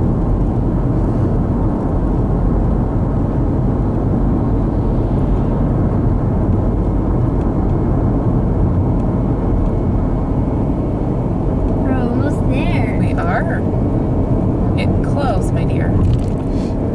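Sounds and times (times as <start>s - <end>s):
car road and engine noise: 0.0s - 16.9s.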